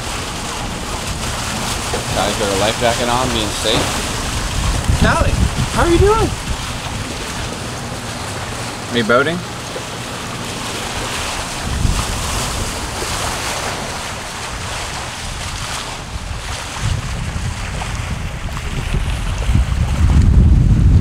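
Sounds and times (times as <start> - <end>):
waves rushing against hull: 0.0 - 21.0
wind buffeting microphone: 0.0 - 21.0.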